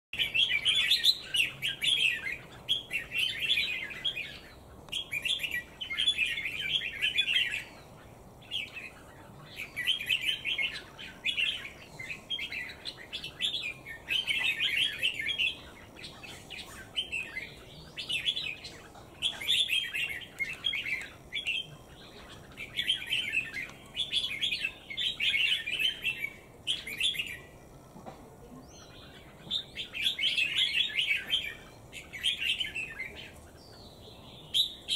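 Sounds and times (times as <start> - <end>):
bird singing rapid chirps: 0.2 - 27.7, 28.6 - 34.9.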